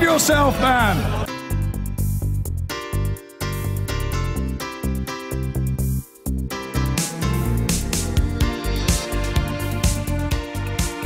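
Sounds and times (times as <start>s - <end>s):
instrumental music with pulsing bass: 0.0s - 11.0s.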